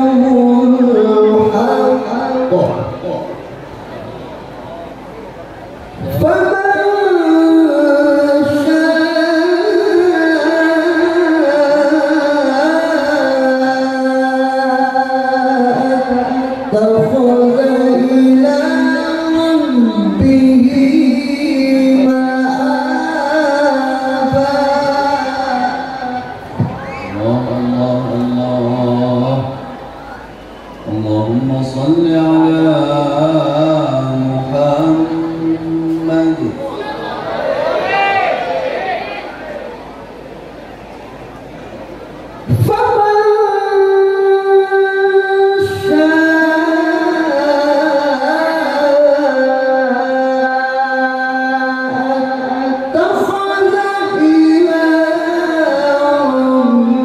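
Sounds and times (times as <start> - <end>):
man reciting melodically: 0.0 - 3.8, 5.9 - 37.2, 42.4 - 57.0.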